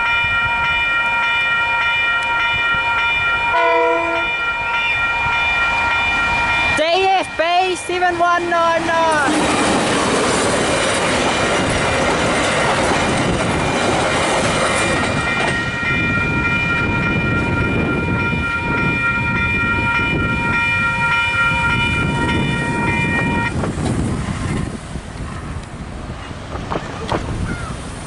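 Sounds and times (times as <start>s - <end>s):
train wheels running over rails: 5.5s - 28.0s.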